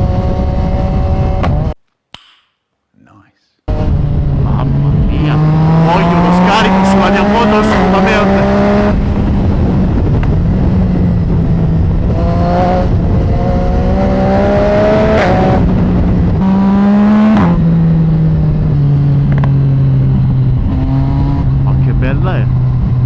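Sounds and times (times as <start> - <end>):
motorcycle engine revving: 0.0 - 1.8, 3.7 - 23.0
wind noise: 0.0 - 1.8, 3.7 - 23.0.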